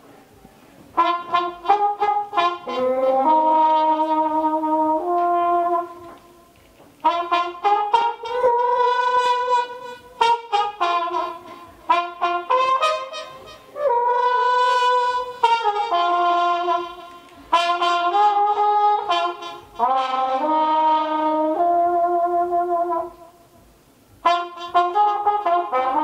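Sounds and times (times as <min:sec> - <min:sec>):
solo trumpet improvising: 0:00.8 - 0:26.0.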